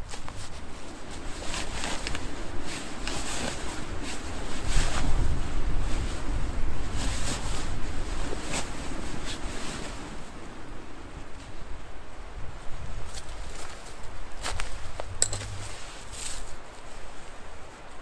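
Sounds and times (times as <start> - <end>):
wind gusting on microphone: 0.0 - 17.9.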